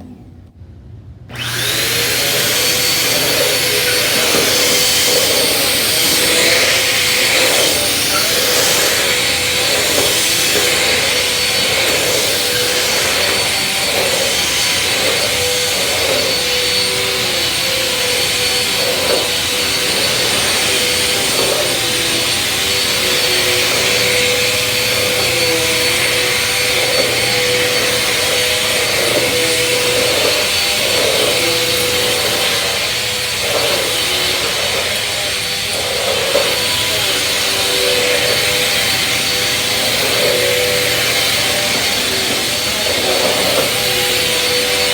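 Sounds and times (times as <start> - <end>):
vacuum cleaner running: 1.3 - 44.9.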